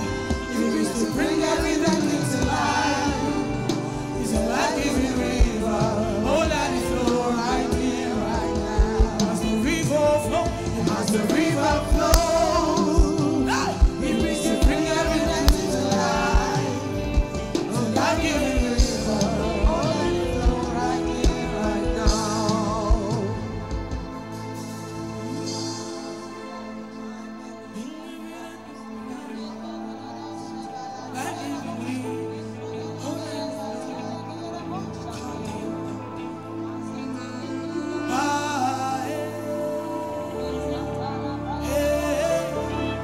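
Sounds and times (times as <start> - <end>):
band with bass guitar: 0.0 - 27.4, 28.6 - 43.0
gospel singers: 0.0 - 43.0.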